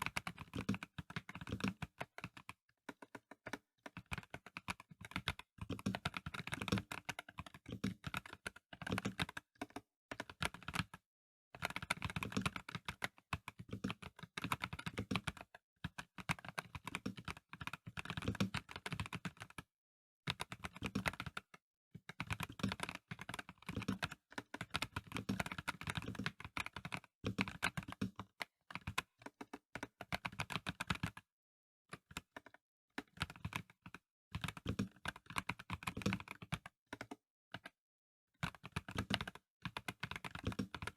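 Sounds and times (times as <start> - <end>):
mechanical keyboard typing: 0.0 - 11.0, 11.6 - 19.7, 20.3 - 31.3, 31.9 - 37.8, 38.4 - 40.9.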